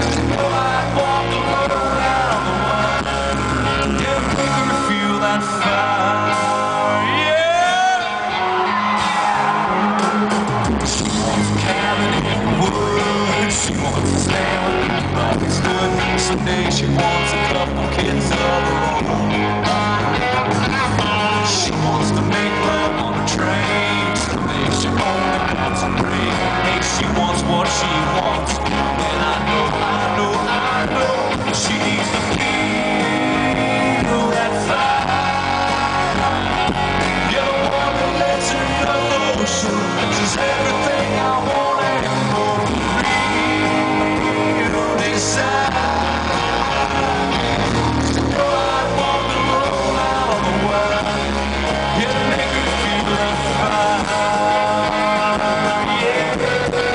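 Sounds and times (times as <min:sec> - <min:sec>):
live country-rock band: 0:00.0 - 0:56.9
man singing: 0:00.0 - 0:56.9.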